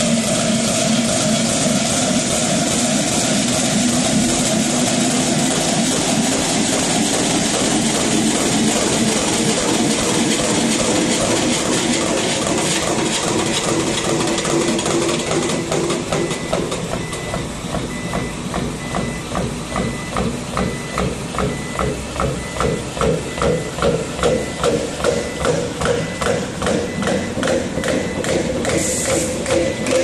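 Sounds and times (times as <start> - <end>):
metal spinning lathe running: 0.0 - 30.0.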